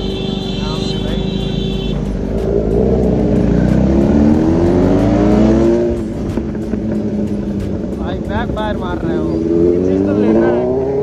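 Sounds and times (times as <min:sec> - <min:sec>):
motorcycle engine accelerating: 0:01.0 - 0:11.0.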